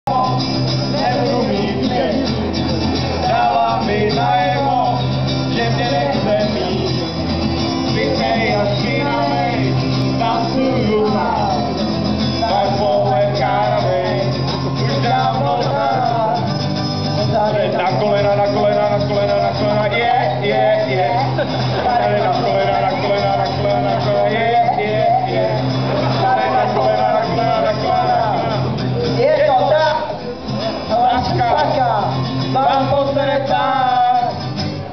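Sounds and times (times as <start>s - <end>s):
acoustic guitars strummed: 0.1s - 34.9s
men singing into microphones: 0.1s - 34.9s.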